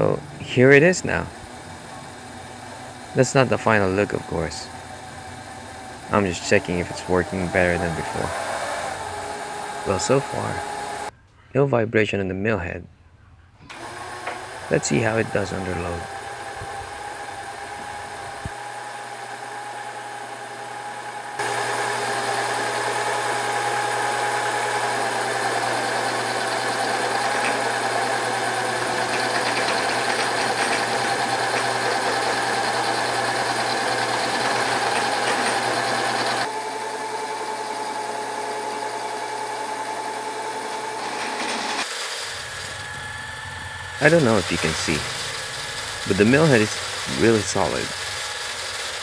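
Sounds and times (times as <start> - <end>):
end mill cutting metal bar: 0.0 - 11.1, 13.7 - 49.0
milling machine motor whining: 0.0 - 11.1, 13.7 - 49.0.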